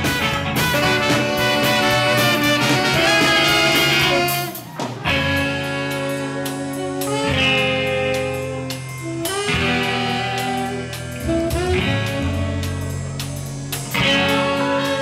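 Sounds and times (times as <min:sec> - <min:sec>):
swing band playing: 0:00.0 - 0:15.0.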